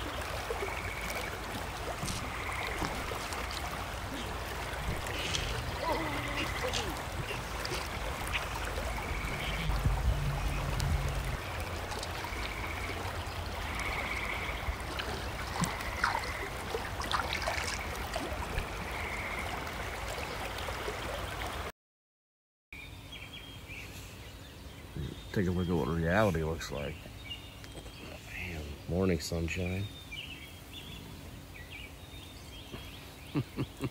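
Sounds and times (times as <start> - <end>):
creek water flowing and gurgling: 0.0 - 21.7, 22.8 - 33.9.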